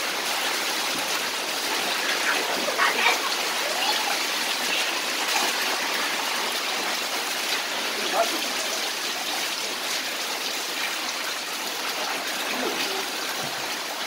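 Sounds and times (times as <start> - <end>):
heavy rain falling: 0.0 - 14.0
water splashing onto concrete: 0.0 - 14.0.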